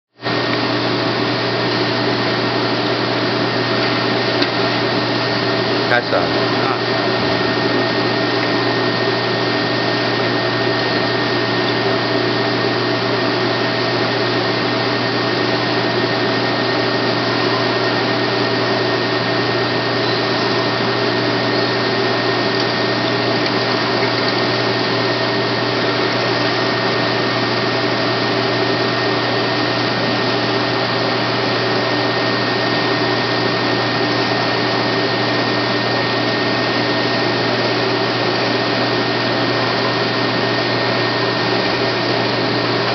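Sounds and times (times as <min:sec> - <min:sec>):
metal lathe whining: 0:00.3 - 0:42.9.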